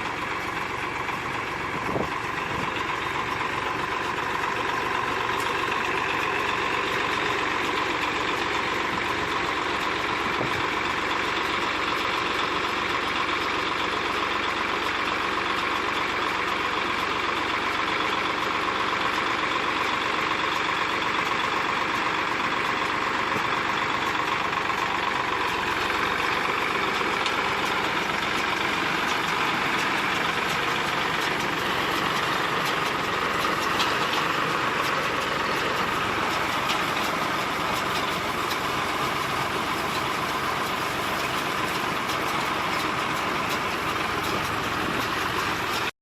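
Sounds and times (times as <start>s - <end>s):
tractor-driven baler running: 0.0s - 46.0s.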